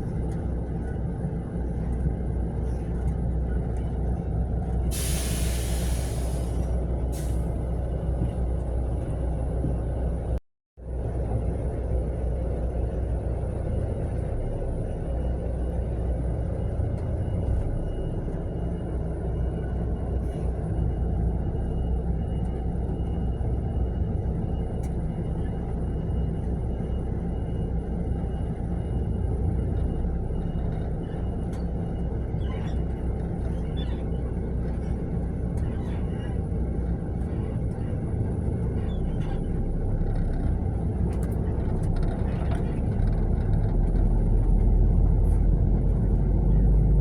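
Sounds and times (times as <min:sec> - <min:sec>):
diesel engine and road rumble: 0:00.0 - 0:47.0.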